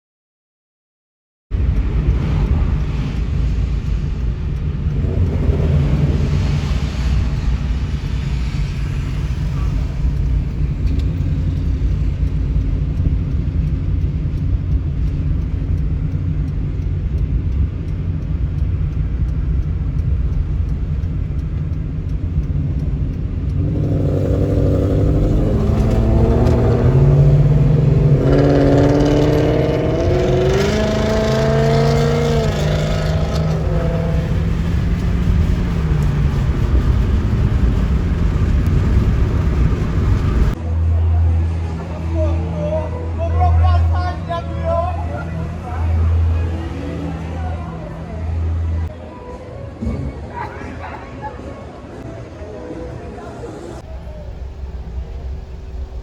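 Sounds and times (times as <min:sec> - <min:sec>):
car engine rumbling and revving: 0:01.5 - 0:49.0, 0:53.2 - 0:56.0.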